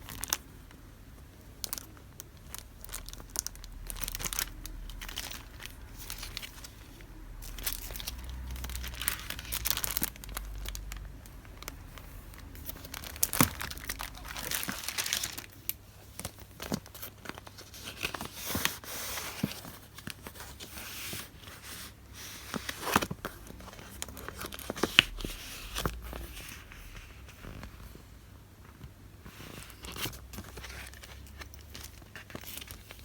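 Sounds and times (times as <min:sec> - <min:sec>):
wrapping crinkling and rustling: 0:00.0 - 0:28.0, 0:28.6 - 0:33.0.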